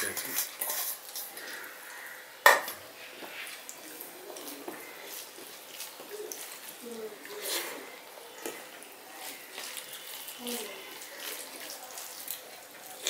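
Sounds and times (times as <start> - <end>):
rice mixed by hand squelching: 0.0 - 13.0.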